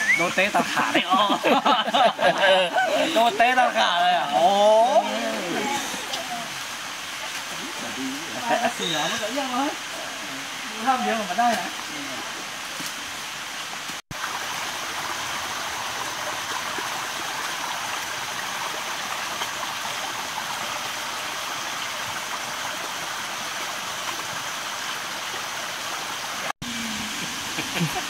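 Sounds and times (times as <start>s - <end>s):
stream running over rocks: 0.0s - 28.0s.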